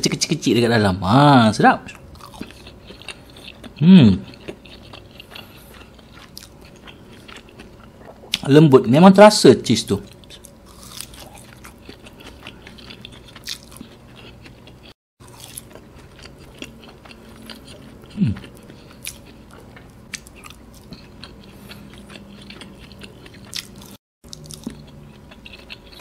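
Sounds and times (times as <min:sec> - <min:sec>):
mouth chewing with wet clicks: 0:02.2 - 0:08.5, 0:10.1 - 0:26.0.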